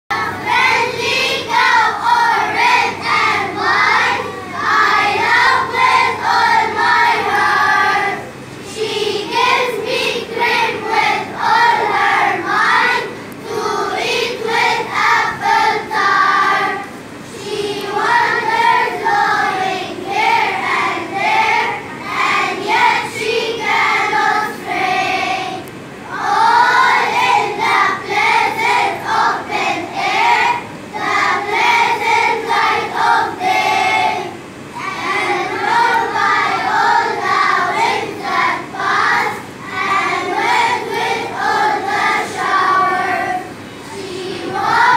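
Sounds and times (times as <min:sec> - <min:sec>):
young children singing: 0:00.1 - 0:44.9.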